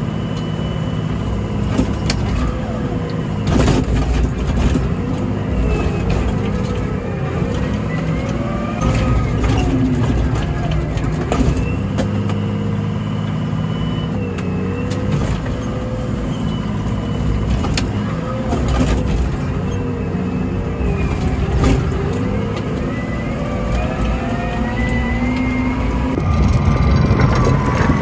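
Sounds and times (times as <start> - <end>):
diesel engine revving: 0.0 - 28.0.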